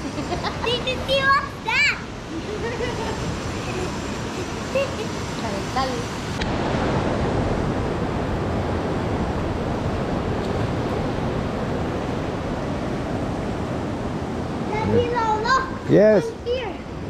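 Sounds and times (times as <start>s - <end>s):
pool water jets churning: 0.0s - 17.0s.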